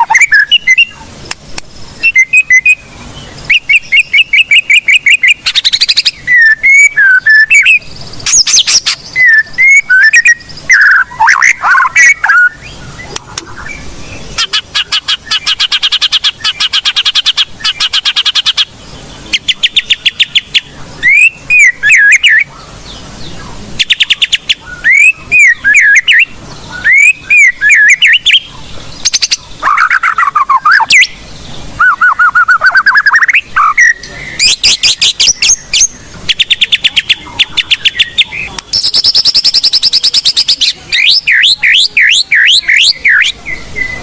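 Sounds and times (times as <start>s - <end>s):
bird singing trills and whistles: 0.0s - 1.1s, 1.7s - 44.0s.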